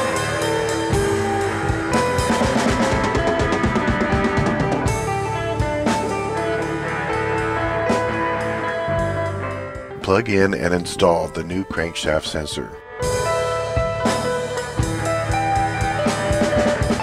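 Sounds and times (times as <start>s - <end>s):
rock music with drums: 0.0s - 17.0s.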